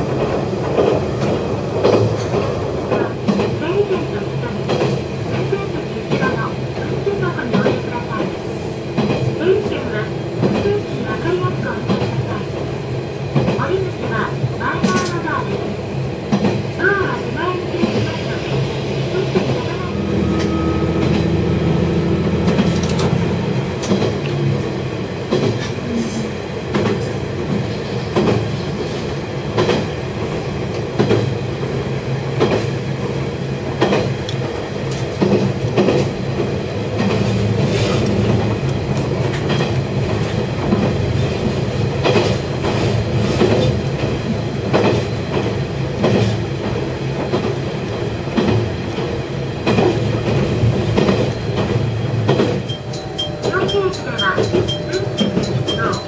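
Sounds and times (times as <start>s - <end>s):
railcar engine humming: 0.0s - 56.0s.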